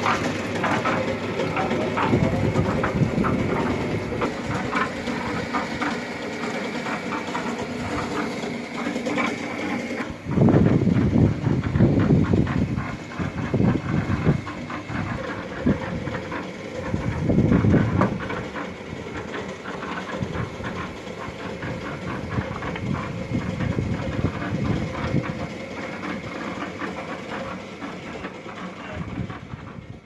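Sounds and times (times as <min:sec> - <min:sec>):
concrete mixer running: 0:00.0 - 0:30.0
mixer drum clattering: 0:00.0 - 0:30.0.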